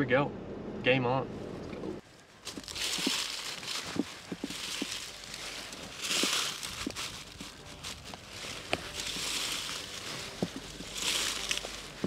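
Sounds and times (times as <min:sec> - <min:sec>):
footsteps through leafy crop: 0:02.0 - 0:12.0
leaves swishing against legs: 0:02.0 - 0:12.0.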